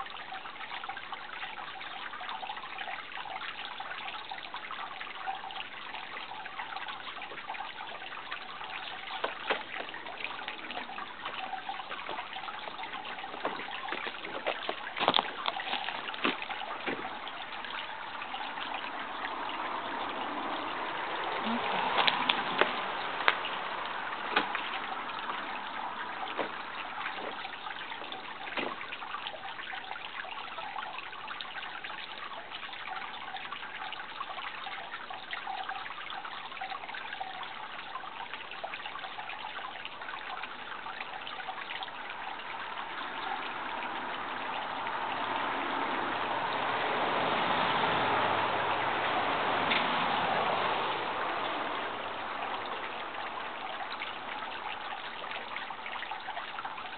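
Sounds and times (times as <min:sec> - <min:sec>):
water trickling: 0:00.0 - 0:56.9.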